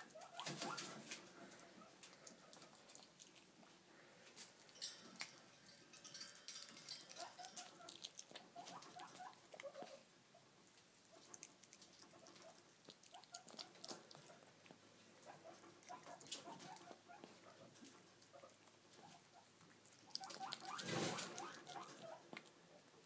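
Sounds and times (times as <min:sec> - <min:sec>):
animal eating with wet smacking: 0:00.0 - 0:10.0, 0:10.6 - 0:22.6.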